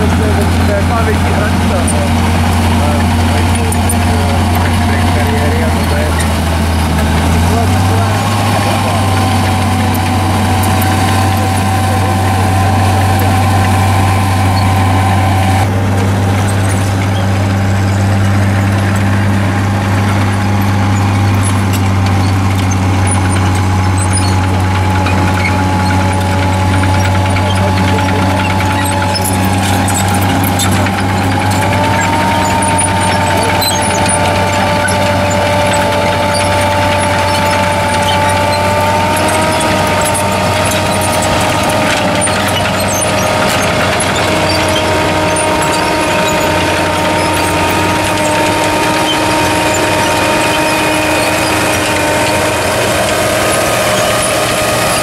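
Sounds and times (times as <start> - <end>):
high whine: 0.0 - 55.0
tank engine running: 0.0 - 55.0.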